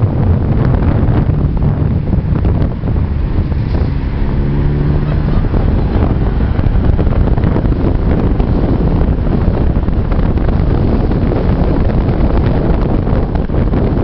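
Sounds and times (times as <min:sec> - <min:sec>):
car engine: 0:00.0 - 0:14.0
road noise: 0:00.0 - 0:14.0
wind buffeting microphone: 0:00.0 - 0:14.0.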